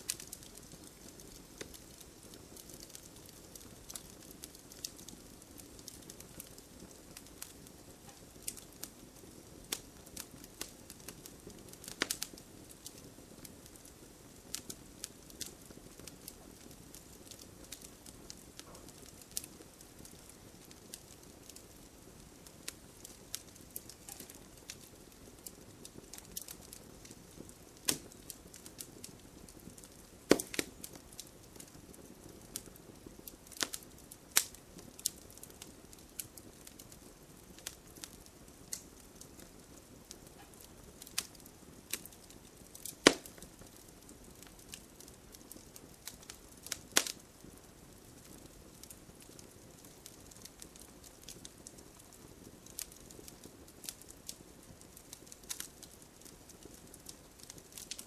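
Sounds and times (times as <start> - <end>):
soft fire hiss: 0.0 - 58.0
wood fire crackling and popping: 0.0 - 58.0.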